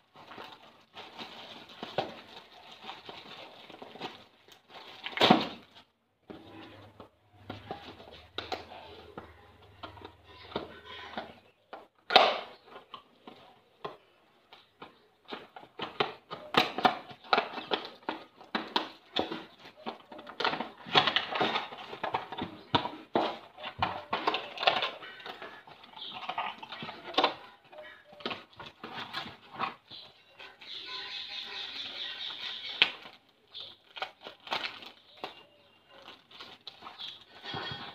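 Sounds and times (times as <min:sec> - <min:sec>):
plastic packaging crinkling: 0:00.0 - 0:11.4, 0:12.1 - 0:37.9.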